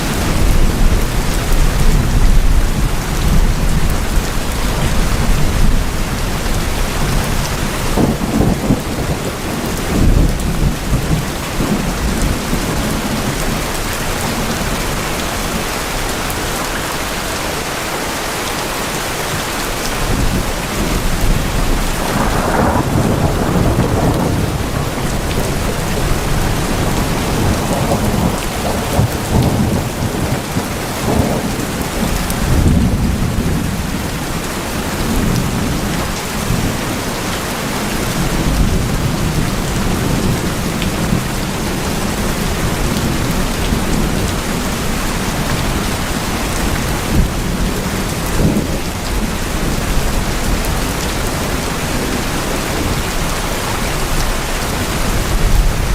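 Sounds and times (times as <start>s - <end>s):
thunder rumbling: 0.0s - 16.6s, 19.9s - 55.9s
heavy rain on tin roofs: 0.0s - 55.9s.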